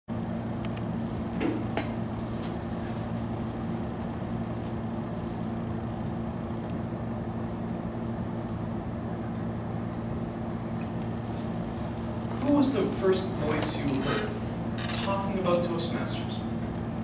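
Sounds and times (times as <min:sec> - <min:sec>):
low room hum: 0:00.1 - 0:17.0.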